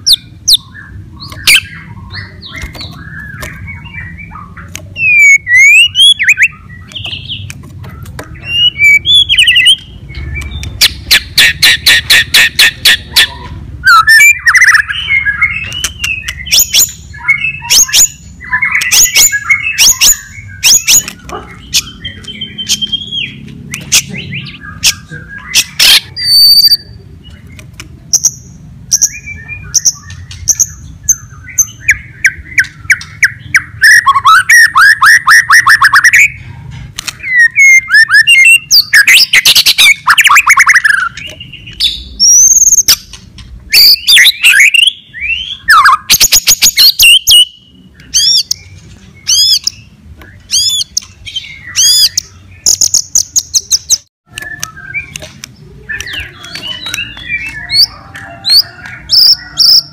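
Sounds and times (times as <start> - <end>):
songbird singing varied song: 0.0 - 36.5, 37.1 - 59.9.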